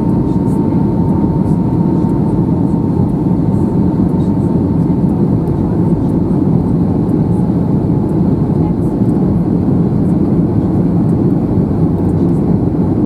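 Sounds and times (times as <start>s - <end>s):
faint steady whine: 0.0s - 13.0s
jet engine roar in cabin: 0.0s - 13.0s.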